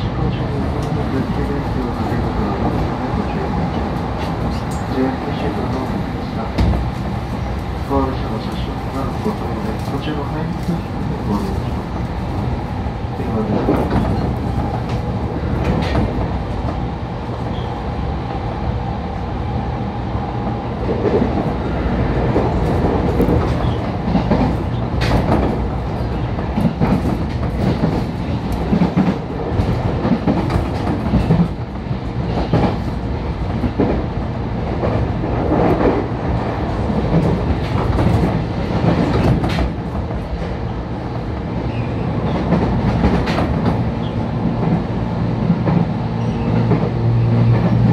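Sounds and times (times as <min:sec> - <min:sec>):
train wheels rumbling: 0:00.0 - 0:47.9.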